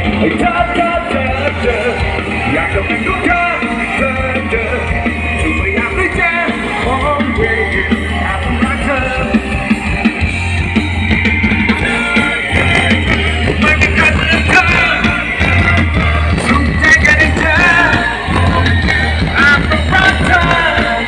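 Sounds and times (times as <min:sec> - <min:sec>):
person singing: 0:00.0 - 0:09.8, 0:11.7 - 0:21.0
drum kit: 0:00.0 - 0:21.0
electric guitar: 0:00.0 - 0:21.0.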